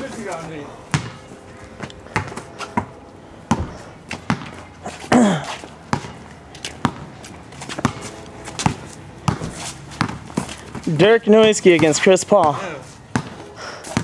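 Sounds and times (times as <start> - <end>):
basketball bouncing on concrete: 0.9 - 1.3, 2.1 - 14.0.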